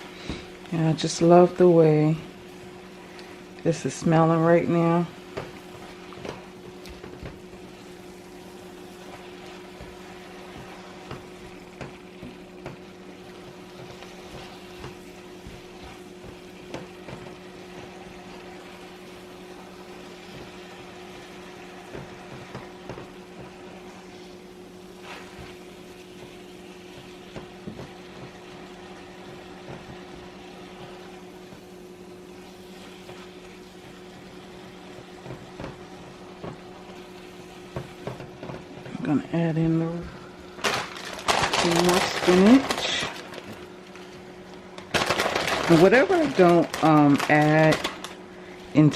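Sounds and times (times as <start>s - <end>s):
vegetables sizzling in oil: 0.0s - 48.9s.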